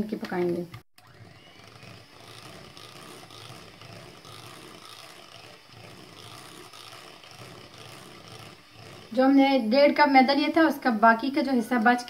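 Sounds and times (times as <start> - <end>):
electric hand mixer whisking batter: 1.0 - 12.0.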